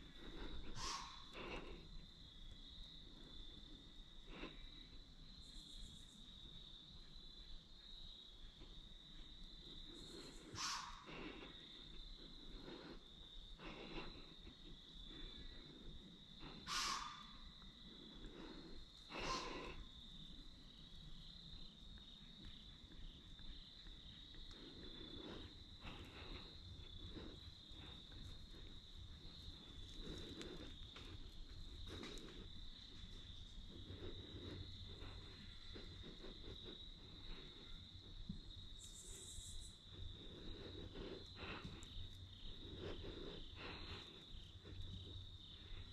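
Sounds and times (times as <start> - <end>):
insect chorus drone: 0.0 - 45.9.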